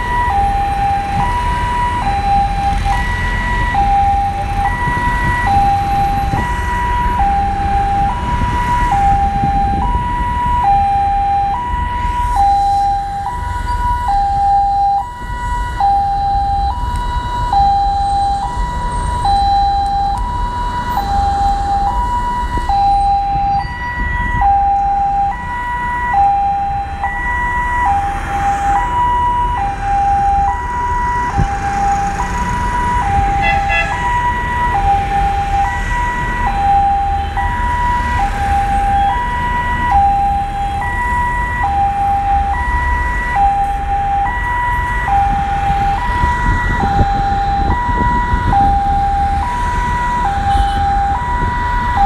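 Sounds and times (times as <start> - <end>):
road traffic rumble: 0.0 - 52.0
two-tone siren: 0.0 - 52.0.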